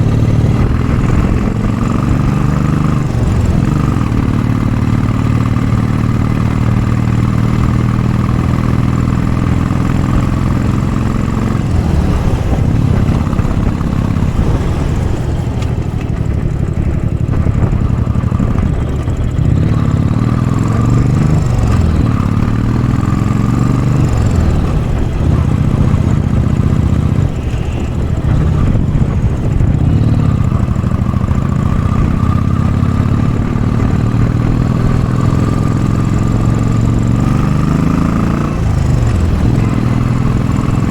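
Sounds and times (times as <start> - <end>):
motorcycle engine climbing hill: 0.0 - 40.9.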